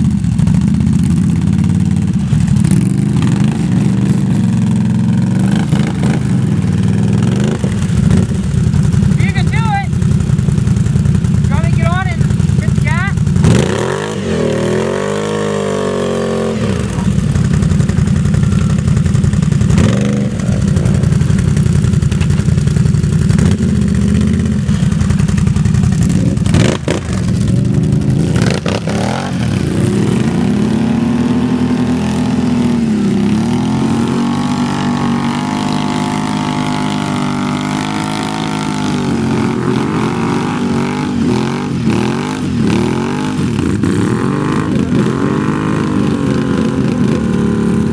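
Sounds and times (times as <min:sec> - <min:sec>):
atv engines revving: 0:00.0 - 0:47.9.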